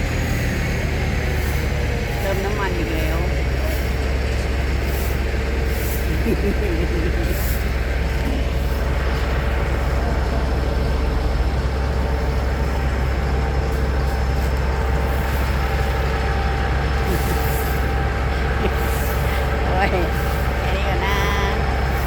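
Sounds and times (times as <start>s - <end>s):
large engine running steadily: 0.0s - 22.0s.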